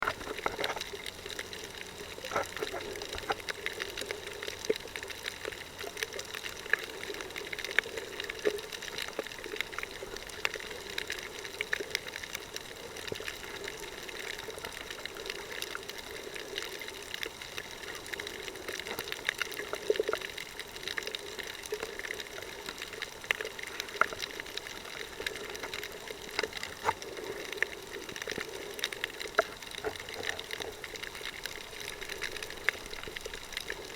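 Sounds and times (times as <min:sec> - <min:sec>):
small underwater clicks and crackles: 0:00.0 - 0:33.9
underwater water wash: 0:00.0 - 0:33.9.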